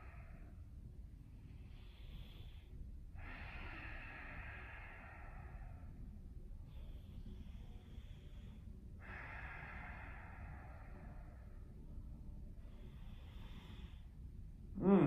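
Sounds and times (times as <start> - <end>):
man breathing slowly: 0.0 - 14.8
faint low rumble: 0.0 - 15.0.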